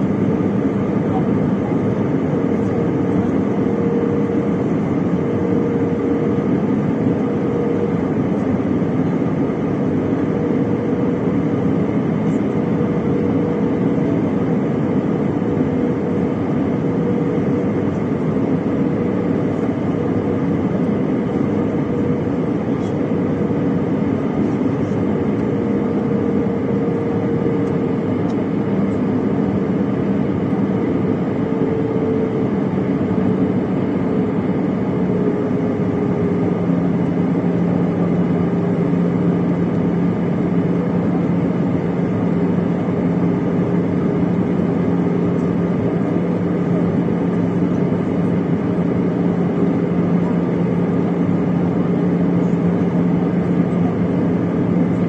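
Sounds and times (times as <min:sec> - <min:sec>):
jet engines and rushing air roar: 0:00.0 - 0:55.0.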